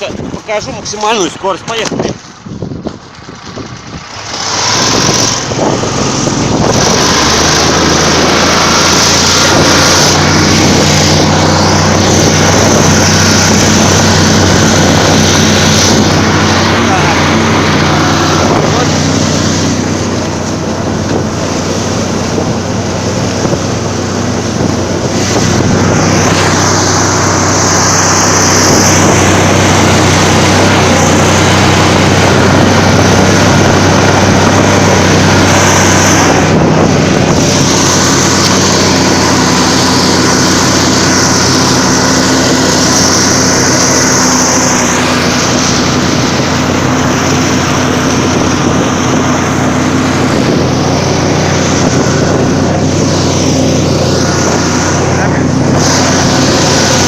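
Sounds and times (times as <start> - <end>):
snowmobile engine running hard: 0.0 - 57.0
wind over microphone: 0.0 - 57.0.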